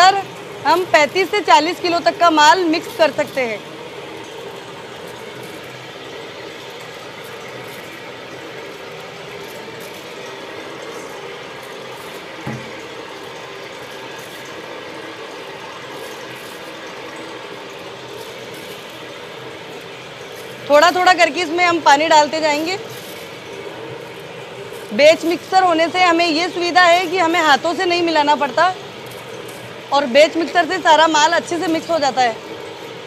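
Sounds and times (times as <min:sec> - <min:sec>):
mixer churning with hum: 0:00.0 - 0:33.0.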